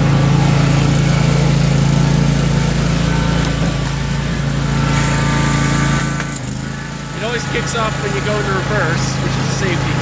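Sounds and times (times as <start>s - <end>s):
lawn tractor engine under load: 0.0s - 10.0s.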